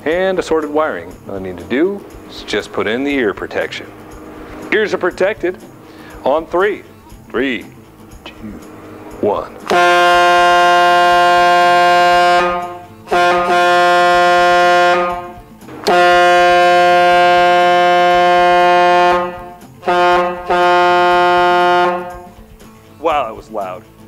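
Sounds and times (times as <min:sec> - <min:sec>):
train horn blasting: 0:00.8 - 0:22.5.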